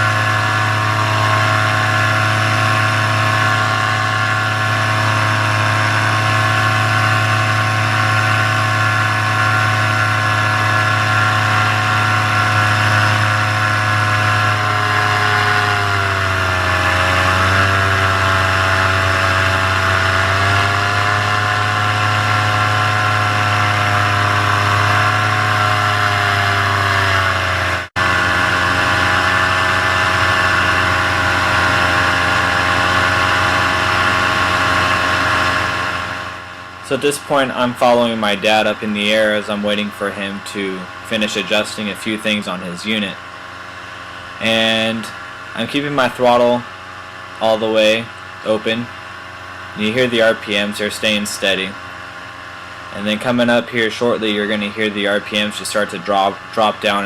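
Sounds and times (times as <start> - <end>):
paramotor engine droning: 0.0 - 57.0.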